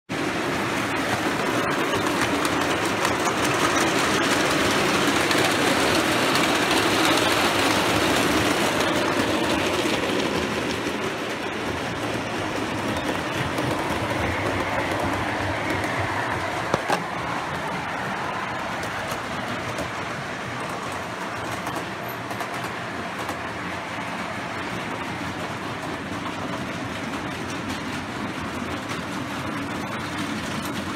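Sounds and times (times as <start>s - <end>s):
model train wheels rolling on rails: 0.1s - 30.9s
sharp clicks of wheels on track: 0.9s - 23.7s, 24.6s - 30.9s.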